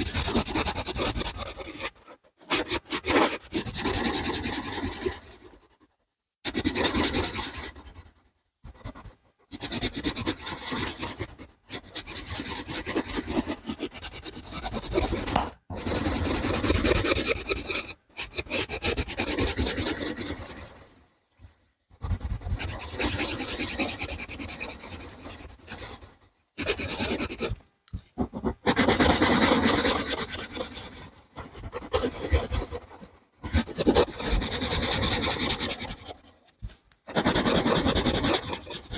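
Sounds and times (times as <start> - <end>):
drawing tool scratching on paper: 0.0 - 5.8, 6.5 - 38.9.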